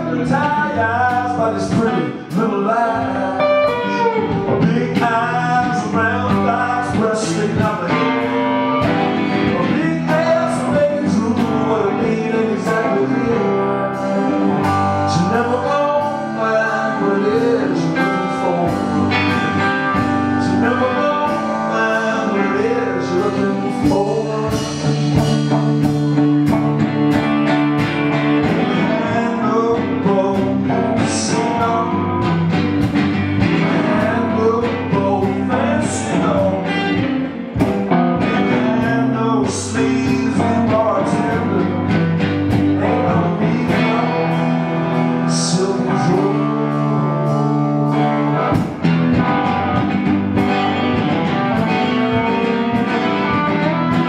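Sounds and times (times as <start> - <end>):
acoustic guitar: 0.0 - 54.0
electric guitar through amplifier: 0.0 - 54.0.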